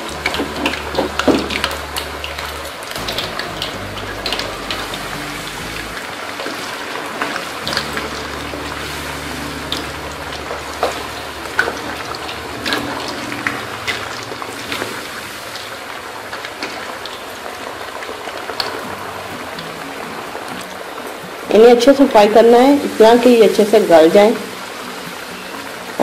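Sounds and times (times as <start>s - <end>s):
potatoes deep-frying in oil: 0.0s - 26.0s.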